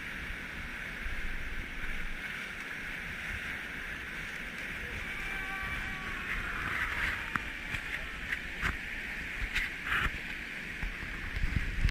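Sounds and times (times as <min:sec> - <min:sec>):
whitewater rapids rushing: 0:00.0 - 0:11.9.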